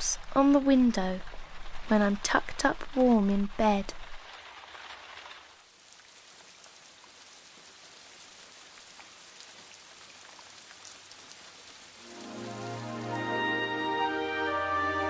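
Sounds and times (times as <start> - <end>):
raindrops ticking: 0.0 - 13.6
rain falling: 0.0 - 15.0.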